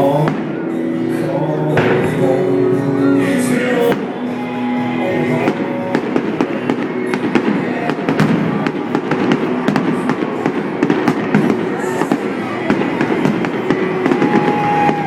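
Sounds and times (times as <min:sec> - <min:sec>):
fireworks bangs and crackles: 0:00.0 - 0:00.9, 0:01.7 - 0:02.5, 0:03.6 - 0:15.0.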